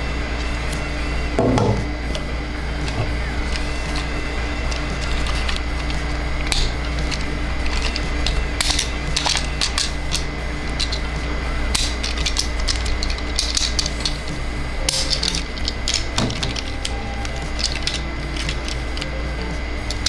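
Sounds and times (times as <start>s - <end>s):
steady low hum: 0.0s - 20.0s
plastic toy parts clicking: 0.4s - 20.0s.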